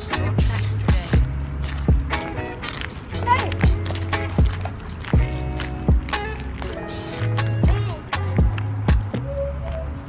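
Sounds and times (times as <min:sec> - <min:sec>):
music with heavy bass drum: 0:00.0 - 0:09.3.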